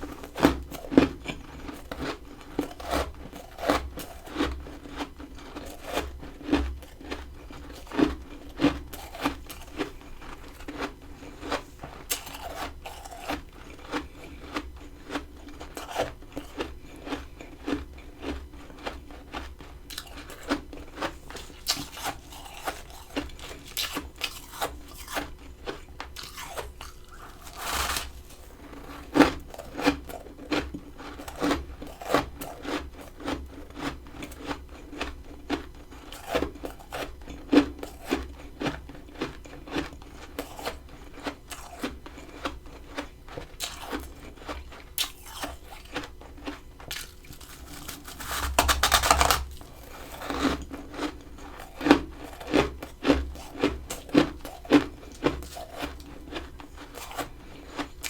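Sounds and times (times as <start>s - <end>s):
chewing crunchy frost: 0.0s - 58.0s.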